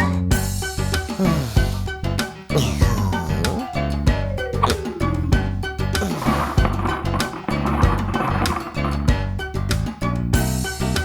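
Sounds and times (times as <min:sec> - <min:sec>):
upbeat children's music: 0:00.0 - 0:11.0.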